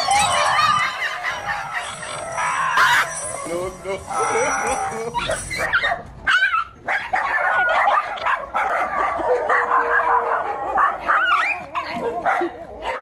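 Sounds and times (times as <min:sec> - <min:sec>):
dog barking and yelping: 0:00.0 - 0:13.0.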